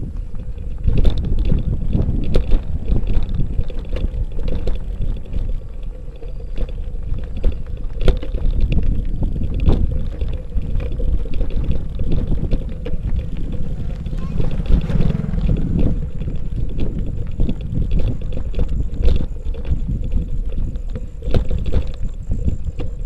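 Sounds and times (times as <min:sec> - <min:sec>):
folding bike rattling and knocking: 0:00.0 - 0:23.0
wind rumble on microphone: 0:00.0 - 0:23.0.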